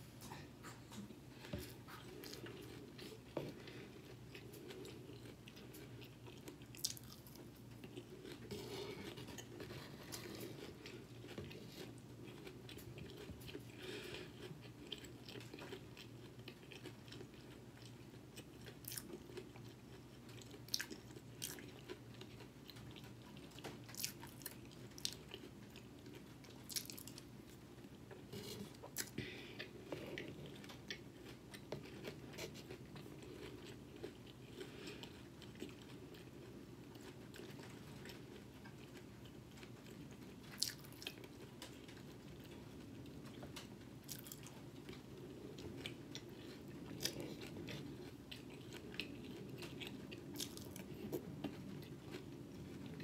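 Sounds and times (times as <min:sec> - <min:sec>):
person chewing cereal: 0:00.1 - 0:53.0
soft crunching with sharp clicks: 0:00.3 - 0:53.0.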